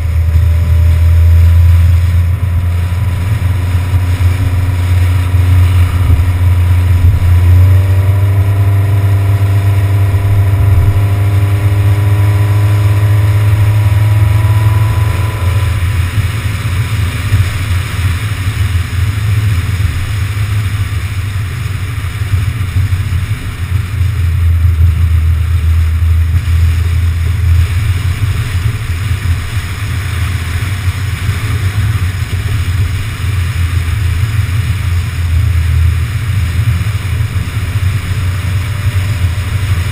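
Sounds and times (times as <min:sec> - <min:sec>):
car engine accelerating: 0:00.0 - 0:39.9
road and wind rumble: 0:00.0 - 0:39.9.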